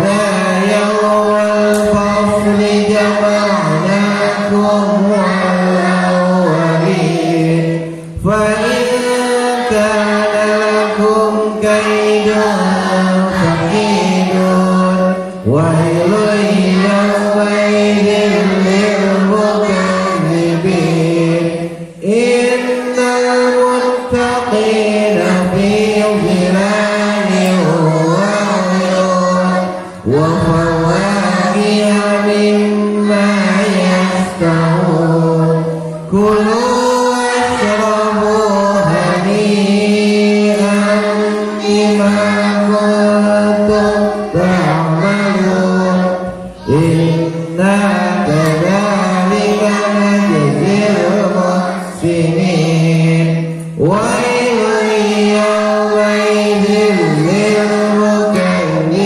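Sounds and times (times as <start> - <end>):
group chanting in unison: 0.0 - 59.0.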